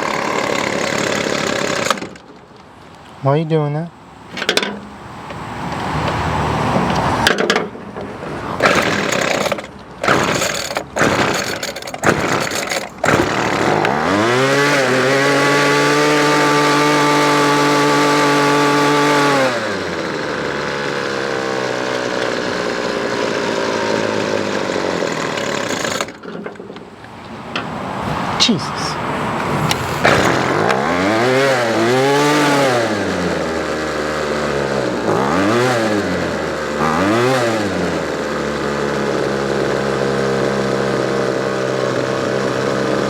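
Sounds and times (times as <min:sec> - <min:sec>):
string trimmer engine revving: 0:00.0 - 0:02.2, 0:08.6 - 0:26.2, 0:28.1 - 0:43.0.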